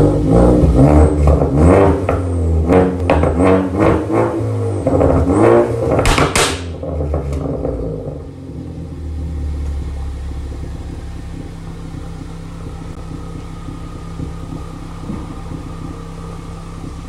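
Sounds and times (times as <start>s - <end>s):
car engine idling with deep rumble: 0.0s - 17.0s
exhaust pops: 0.0s - 17.0s.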